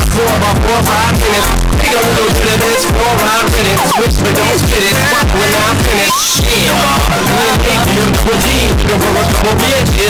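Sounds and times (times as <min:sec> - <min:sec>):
booming kick drums: 0:00.0 - 0:10.0
hip-hop dance music: 0:00.0 - 0:10.0.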